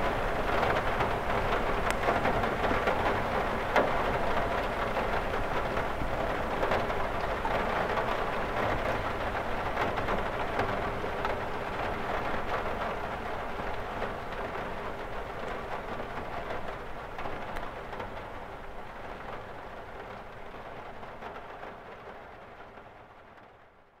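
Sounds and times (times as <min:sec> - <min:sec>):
rain on a window: 0:00.0 - 0:24.0.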